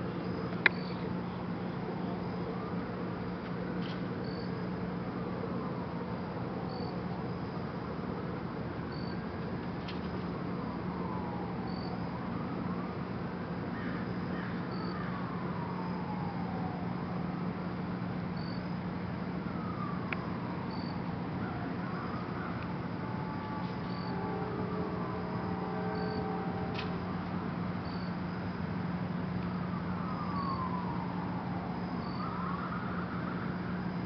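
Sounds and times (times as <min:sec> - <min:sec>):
distant siren wailing: 0:00.0 - 0:34.0
steady low hum: 0:00.0 - 0:34.0.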